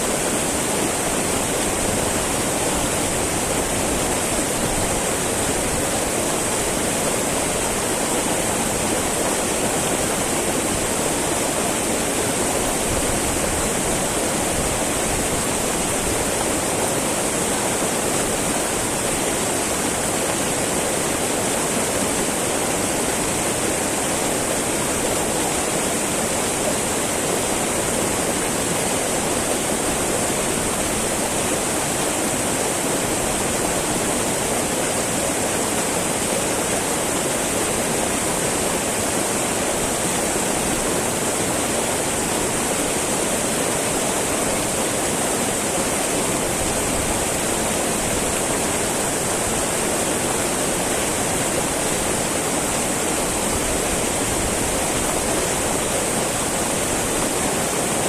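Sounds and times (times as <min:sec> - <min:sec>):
river babbling over rocks: 0:00.0 - 0:58.0.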